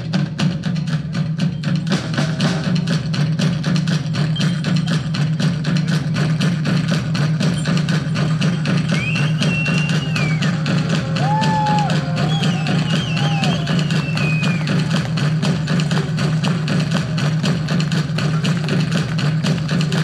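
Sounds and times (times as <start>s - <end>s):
fast drumming: 0.0s - 20.0s
strong low bass: 0.0s - 20.0s.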